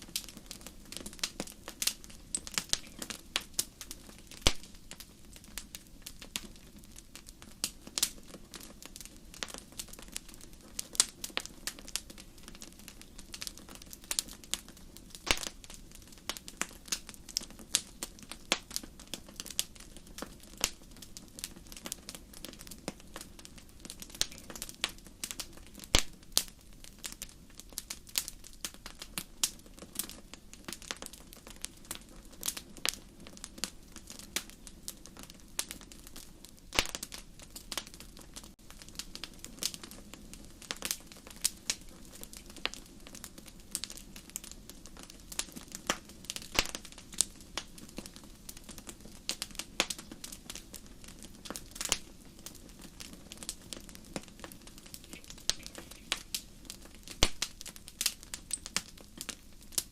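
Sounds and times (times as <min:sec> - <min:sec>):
burning wood crackling and popping: 0:00.0 - 0:59.9
campfire flames rushing: 0:00.0 - 0:59.9.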